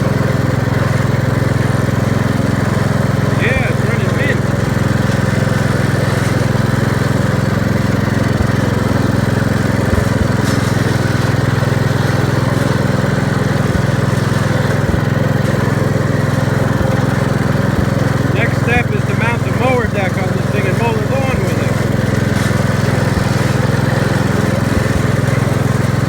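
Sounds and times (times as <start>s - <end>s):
tractor engine running steadily: 0.0s - 26.0s.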